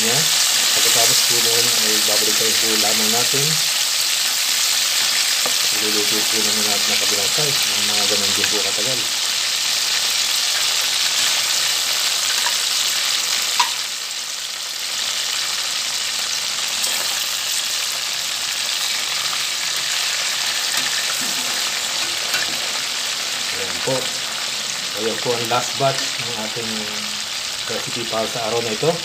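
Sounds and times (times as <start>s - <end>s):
oil sizzling with crackles: 0.0s - 29.0s.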